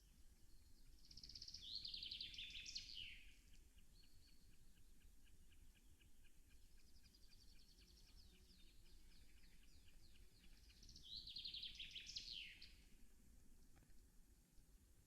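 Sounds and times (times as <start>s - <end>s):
songbirds singing: 0.0s - 14.7s.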